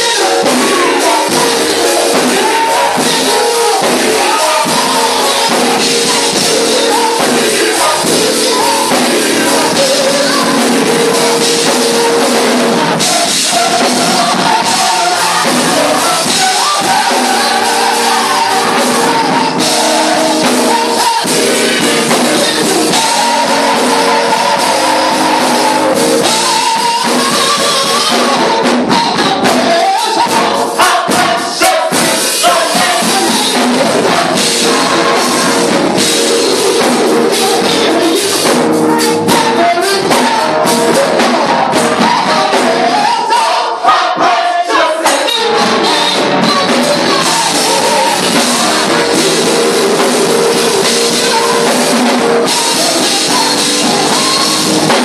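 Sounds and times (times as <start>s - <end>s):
lead singer on microphone: 0.0s - 44.3s, 45.2s - 55.0s
live music accompaniment: 0.0s - 55.0s
vocal group singing: 0.0s - 55.0s.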